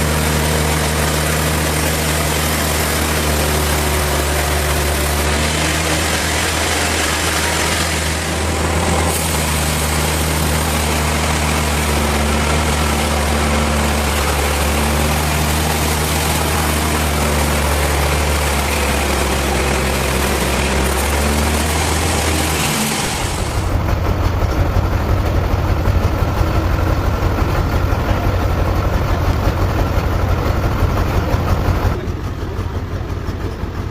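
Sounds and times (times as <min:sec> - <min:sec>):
deep engine drone: 0:00.0 - 0:33.9.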